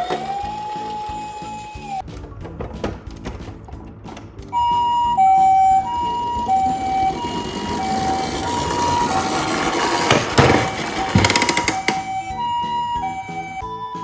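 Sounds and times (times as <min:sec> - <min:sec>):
toy two-tone electronic siren: 0:00.0 - 0:02.0, 0:04.5 - 0:14.0.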